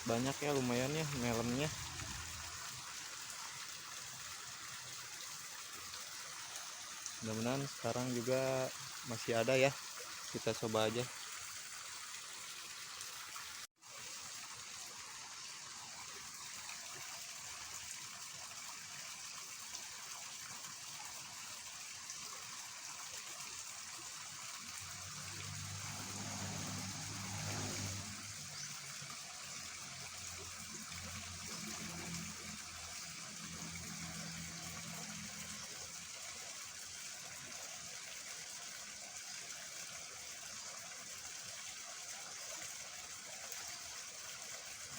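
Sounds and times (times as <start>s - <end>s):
water rushing in a ditch: 0.0s - 44.9s.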